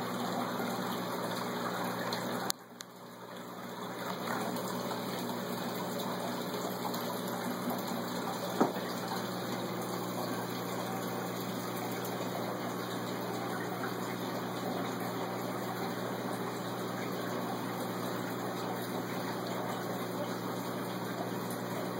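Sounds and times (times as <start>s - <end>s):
low pump hum: 0.0s - 21.9s
water pouring into tank: 0.0s - 21.9s.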